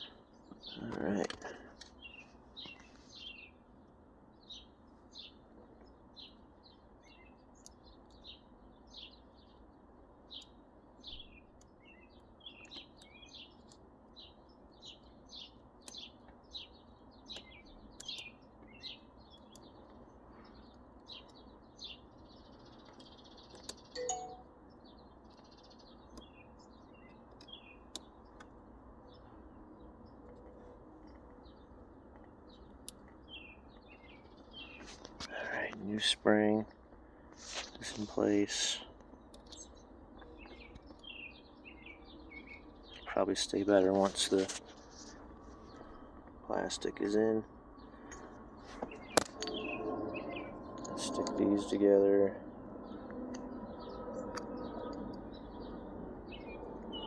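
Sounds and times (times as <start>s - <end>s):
steady low hiss: 0.0s - 49.4s
small birds chirping: 0.0s - 57.0s.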